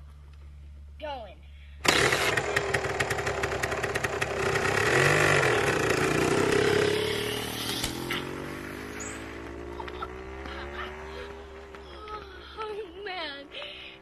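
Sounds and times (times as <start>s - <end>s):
motorcycle engine running: 1.8s - 14.0s.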